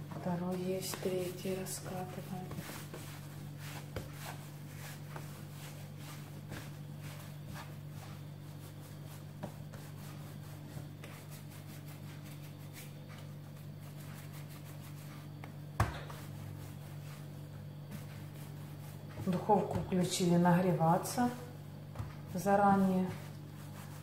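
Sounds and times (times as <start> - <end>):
hands rubbing dough: 0.0 - 24.0
steady low hum: 0.0 - 24.0.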